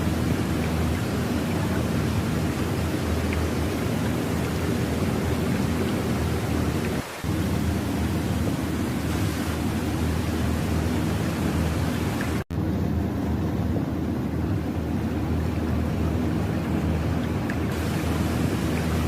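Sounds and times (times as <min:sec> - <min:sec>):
low rumbling noise: 0:00.0 - 0:19.0.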